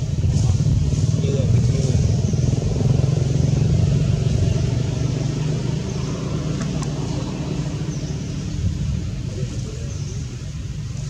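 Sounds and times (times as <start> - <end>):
motor engine humming: 0.0 - 11.0.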